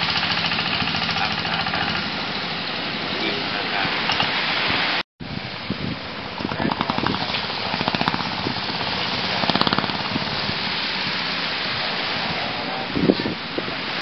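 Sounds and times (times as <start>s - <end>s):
sea surf hissing: 0.0s - 14.0s
wind buffeting microphone: 0.0s - 14.0s.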